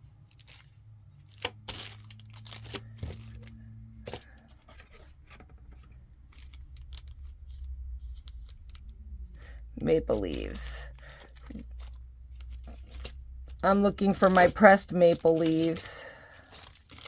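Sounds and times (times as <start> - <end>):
plastic bags of beads rustling: 0.0 - 17.0.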